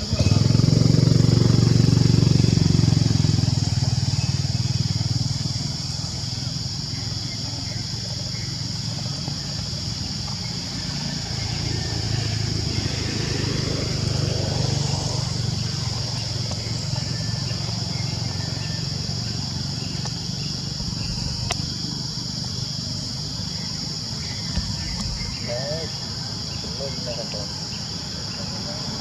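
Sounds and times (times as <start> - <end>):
insects droning: 0.0 - 29.0
vehicle engine rumble: 0.0 - 29.0.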